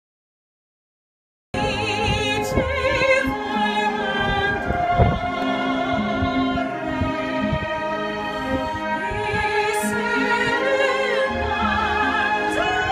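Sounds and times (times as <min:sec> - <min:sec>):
orchestral backing music: 0:01.6 - 0:12.9
woman singing operatically: 0:01.6 - 0:12.9.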